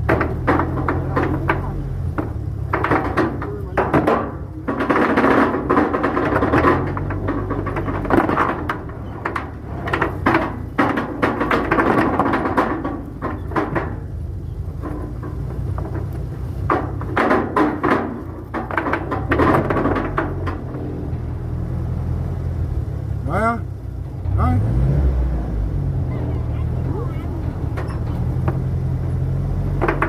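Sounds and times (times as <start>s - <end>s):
knocks and clatter of net work: 0.0s - 23.1s, 23.9s - 30.0s.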